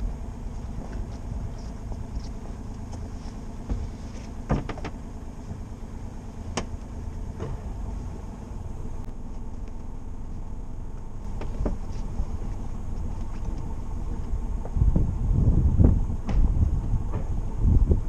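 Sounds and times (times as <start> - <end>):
boat engine running at low revs: 0.0 - 18.0.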